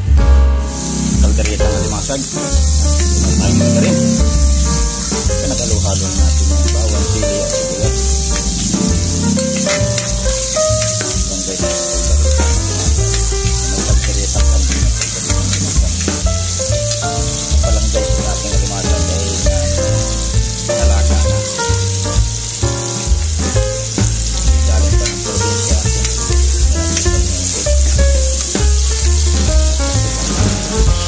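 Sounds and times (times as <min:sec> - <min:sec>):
background music with bass line: 0:00.0 - 0:31.0
aromatics sizzling in hot oil: 0:00.8 - 0:31.0.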